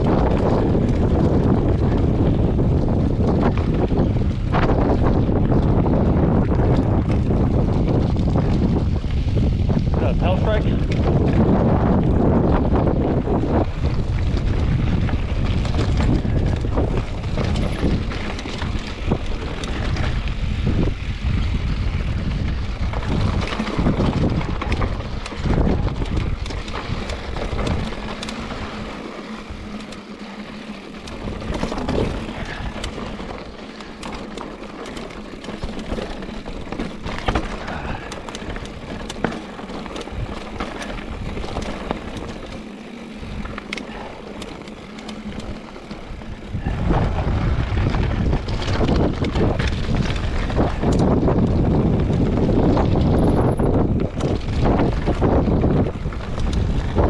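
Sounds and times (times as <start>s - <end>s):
rolling noise on rough trail: 0.0s - 57.0s
wind buffeting microphone: 0.0s - 57.0s.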